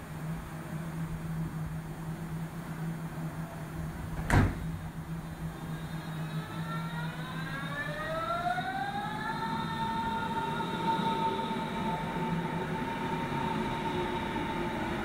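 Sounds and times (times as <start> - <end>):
electric train motor whine: 0.0 - 15.0
steady low hum: 0.0 - 15.0.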